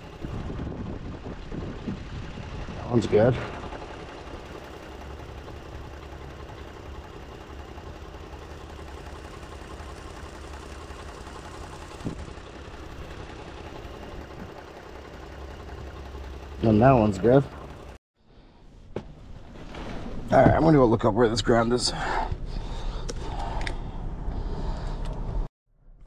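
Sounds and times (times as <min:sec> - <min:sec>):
engine idling: 0:00.0 - 0:25.5.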